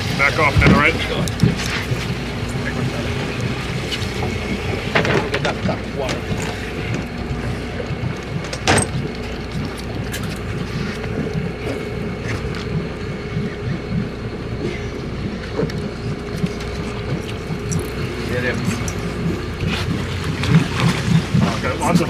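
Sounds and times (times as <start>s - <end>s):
boat engine rumbling: 0.0s - 22.0s
water noise: 0.0s - 22.0s
wind: 0.0s - 22.0s.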